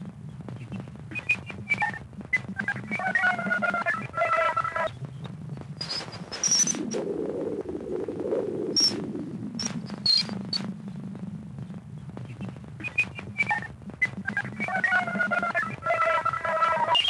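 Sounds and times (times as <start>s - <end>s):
crackling radio static: 0.0s - 17.0s
steady low hum: 0.0s - 17.0s.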